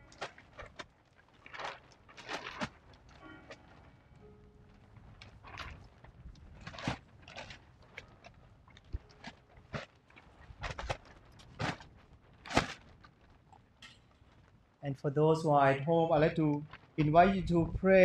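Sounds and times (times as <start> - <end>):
handling rustles and knocks: 0.0 - 14.7.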